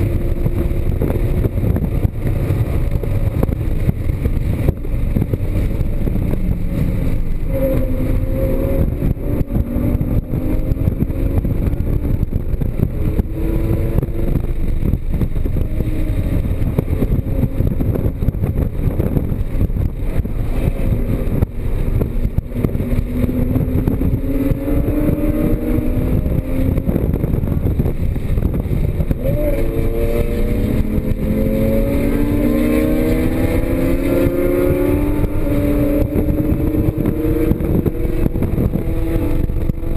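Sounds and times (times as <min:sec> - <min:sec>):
low rumble: 0:00.0 - 0:39.9
sports car engine accelerating: 0:00.0 - 0:39.9.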